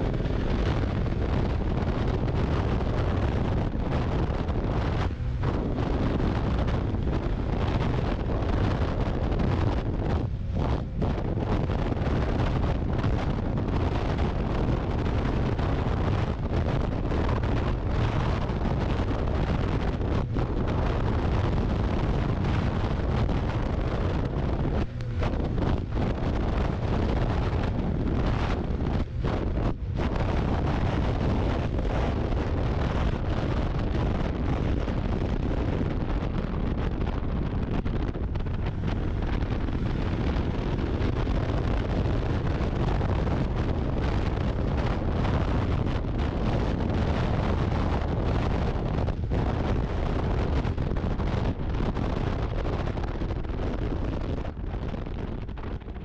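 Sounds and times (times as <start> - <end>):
snowmobile engine and track: 0.0 - 56.0
wind buffeting microphone: 0.0 - 56.0.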